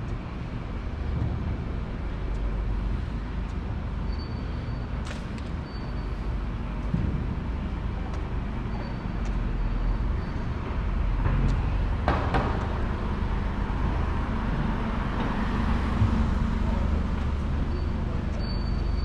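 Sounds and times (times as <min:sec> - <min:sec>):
vehicle engine running low: 0:00.0 - 0:19.0.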